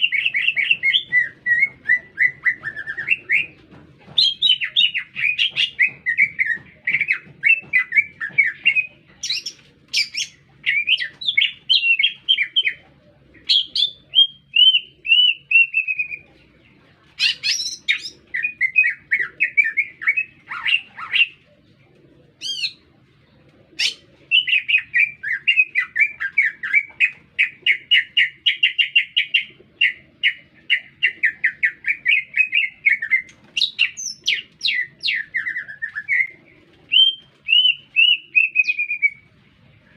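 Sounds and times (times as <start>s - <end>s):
bird singing warbling song: 0.0s - 21.7s, 22.4s - 39.9s.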